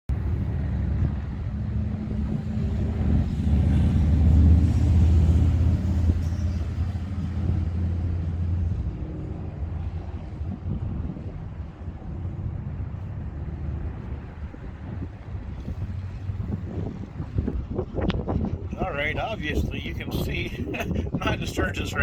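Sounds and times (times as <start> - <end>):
vehicle engine rumbling: 0.1 - 22.0.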